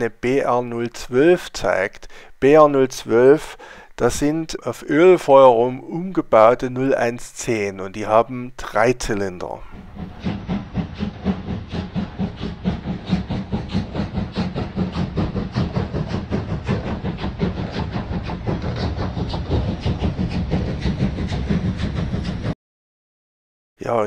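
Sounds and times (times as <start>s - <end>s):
steam locomotive chuffing: 0.0s - 22.6s.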